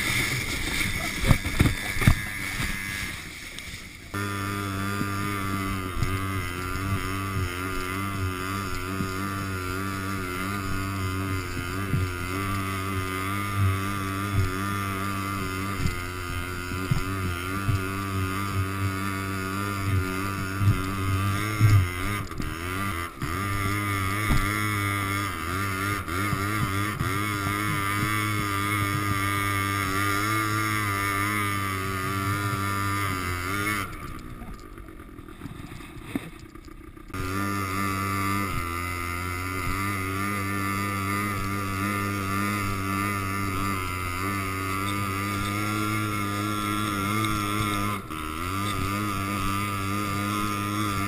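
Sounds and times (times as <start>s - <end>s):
quad bike engine running: 0.0s - 51.0s.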